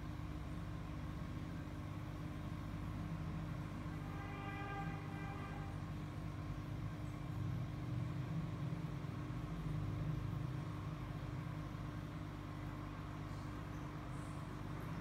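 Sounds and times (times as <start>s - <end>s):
faint constant hum: 0.0s - 15.0s
low mechanical rumble: 0.0s - 15.0s.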